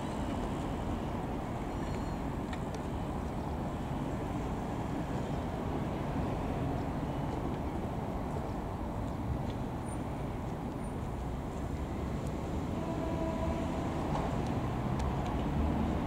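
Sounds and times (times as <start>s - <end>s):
cars passing: 0.0s - 16.0s
road traffic rumble: 0.0s - 16.0s.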